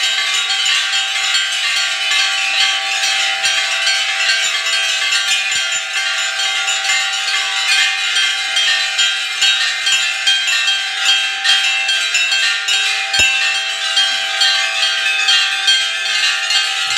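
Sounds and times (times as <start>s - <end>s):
brass bells clanging: 0.0s - 16.9s.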